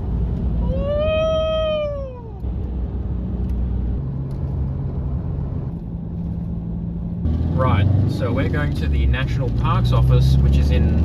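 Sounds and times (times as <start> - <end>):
car interior road and engine rumble: 0.0 - 11.0.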